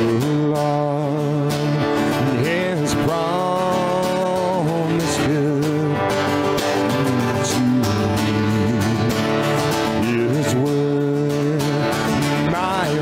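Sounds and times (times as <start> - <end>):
man singing: 0.0 - 13.0
strummed acoustic guitar: 0.0 - 13.0.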